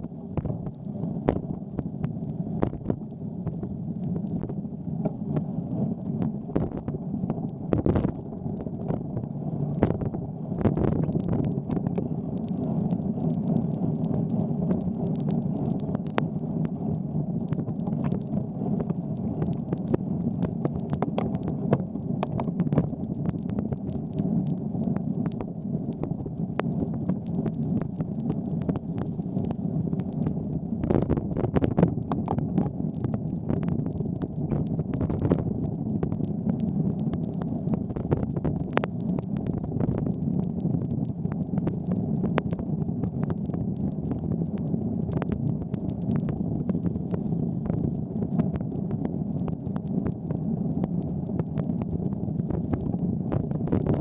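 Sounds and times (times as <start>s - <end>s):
bicycle rumbling on wet pavement: 0.0s - 50.0s.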